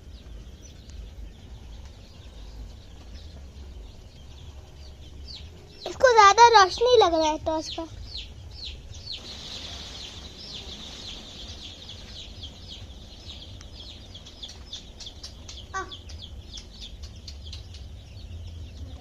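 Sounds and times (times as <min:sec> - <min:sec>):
chicks peeping: 0:00.0 - 0:19.0
steady low hum: 0:00.0 - 0:19.0.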